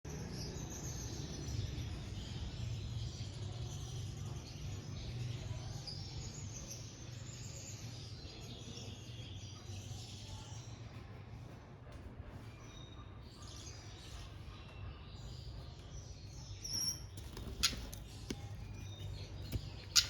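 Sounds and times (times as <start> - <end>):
small birds chirping and twittering: 0.1 - 20.0.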